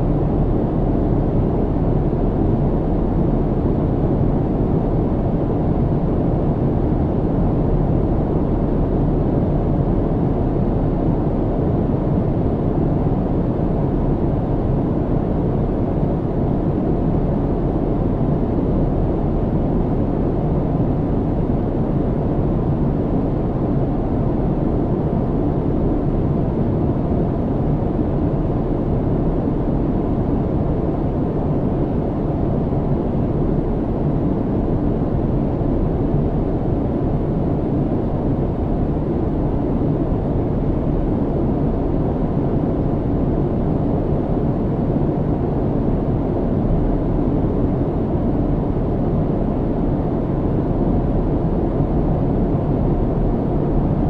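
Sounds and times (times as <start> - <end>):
airplane cabin low rumble: 0.0 - 54.0.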